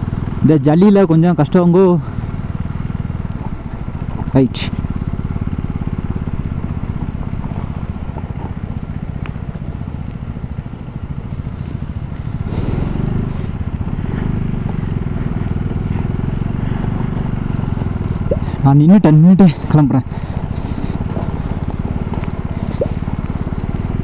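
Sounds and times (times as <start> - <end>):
motorcycle engine running: 0.0 - 24.0
tyres on loose gravel: 0.0 - 24.0.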